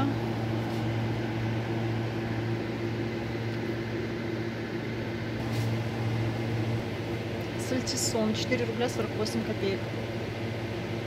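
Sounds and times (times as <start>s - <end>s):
refrigerated display cases humming: 0.0s - 11.0s.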